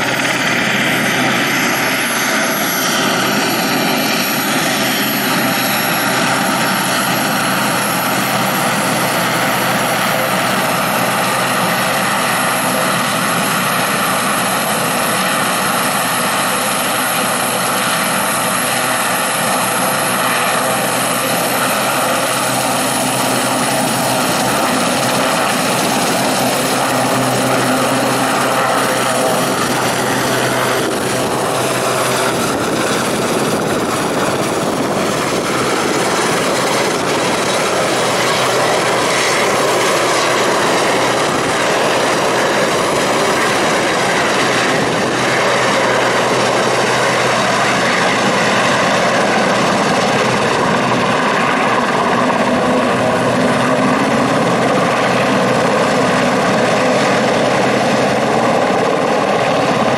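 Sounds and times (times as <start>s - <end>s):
helicopter engines and rotor: 0.0s - 59.9s.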